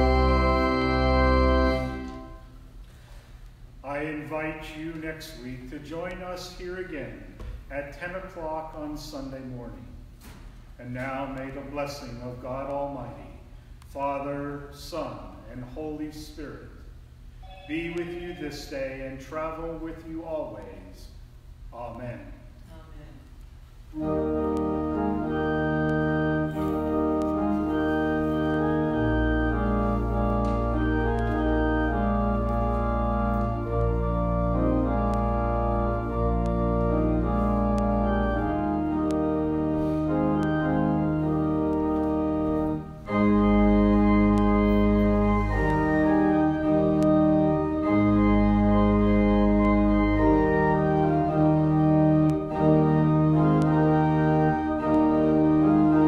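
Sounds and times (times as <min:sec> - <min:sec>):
organ playing sustained chords: 0:00.0 - 0:10.0, 0:10.8 - 0:22.6, 0:23.6 - 0:56.0.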